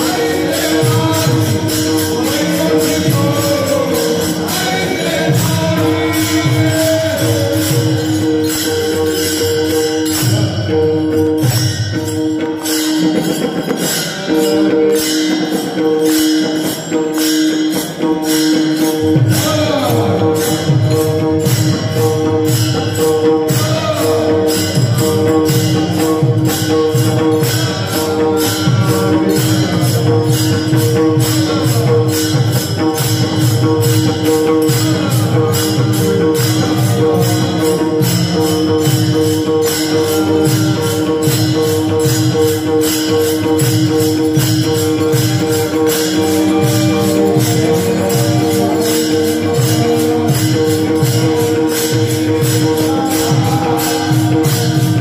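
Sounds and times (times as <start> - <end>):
hand cymbals clashing: 0.0 - 55.0
rhythmic drum beat: 0.0 - 55.0
steady held drone: 0.0 - 55.0.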